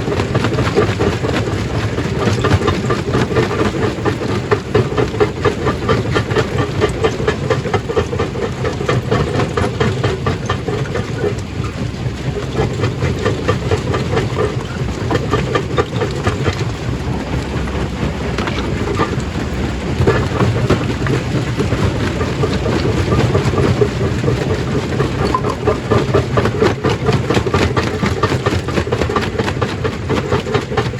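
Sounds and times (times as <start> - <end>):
stone crushing machine humming: 0.0 - 30.9.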